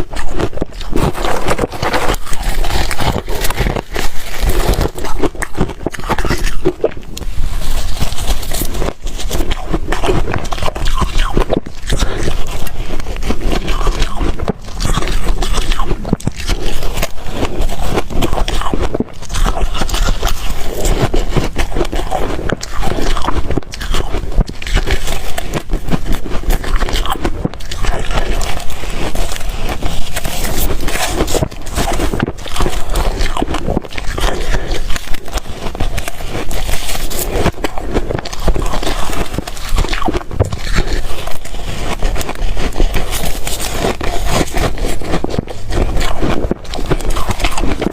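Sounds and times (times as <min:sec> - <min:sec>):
ice crunching while chewed: 0:00.0 - 0:47.9.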